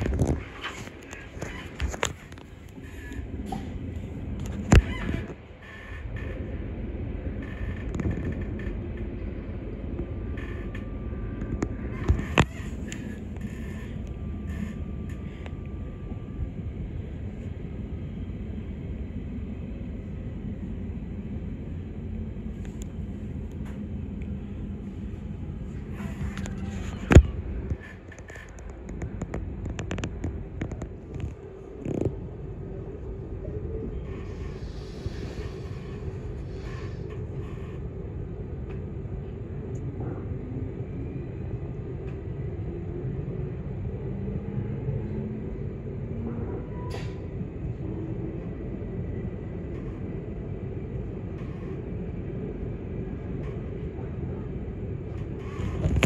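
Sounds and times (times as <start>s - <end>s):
faint hum: 0.0s - 56.0s
train rumble: 0.0s - 56.0s.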